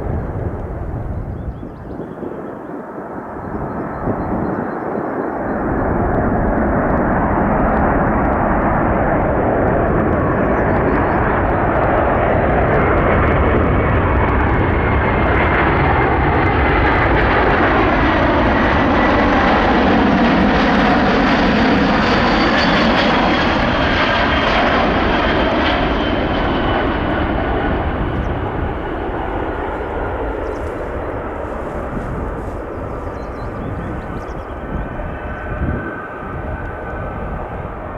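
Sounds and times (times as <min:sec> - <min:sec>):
jet aircraft passing by: 0:00.0 - 0:37.9.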